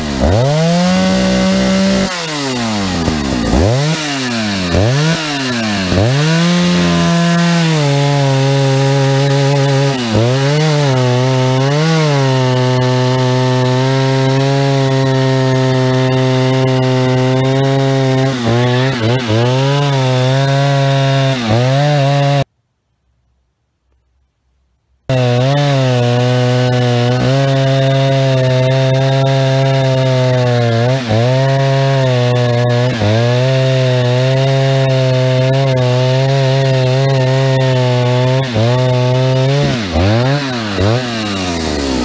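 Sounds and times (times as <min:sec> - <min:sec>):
chainsaw cutting through log: 0:00.0 - 0:22.5, 0:25.1 - 0:42.0
chainsaw revving: 0:00.0 - 0:22.5, 0:25.1 - 0:42.0.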